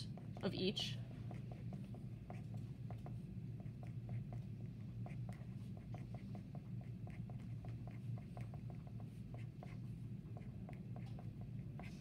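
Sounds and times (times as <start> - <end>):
steady low hum: 0.0 - 12.0
pen scratching on paper: 1.3 - 12.0.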